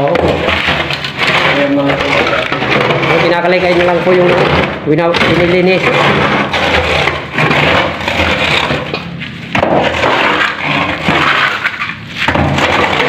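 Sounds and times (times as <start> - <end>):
wooden plank raking rubble: 0.0 - 13.0.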